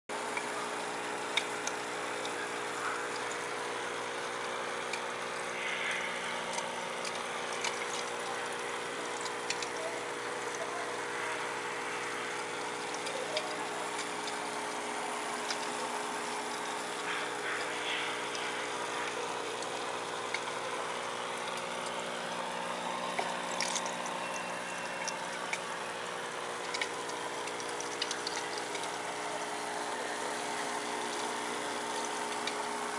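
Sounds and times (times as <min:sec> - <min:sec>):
aquarium pump humming: 0:00.1 - 0:32.9
water hissing: 0:05.3 - 0:32.9.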